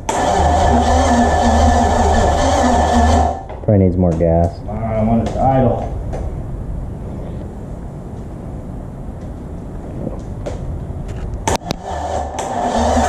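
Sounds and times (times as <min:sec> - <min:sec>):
engine rough low rumble: 0:00.0 - 0:13.0.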